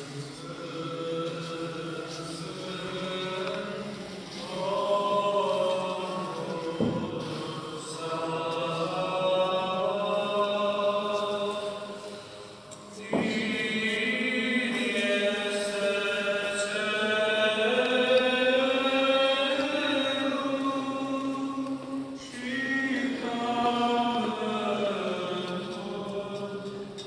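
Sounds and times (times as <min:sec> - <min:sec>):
voices chanting long held notes: 0:00.0 - 0:27.0.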